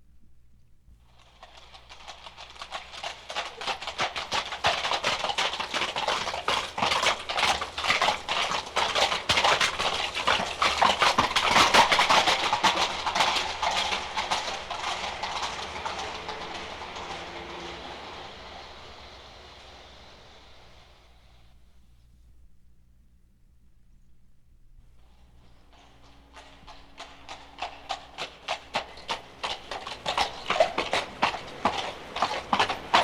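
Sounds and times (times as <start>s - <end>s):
horse hooves trotting on street: 1.0s - 21.6s, 25.0s - 33.0s.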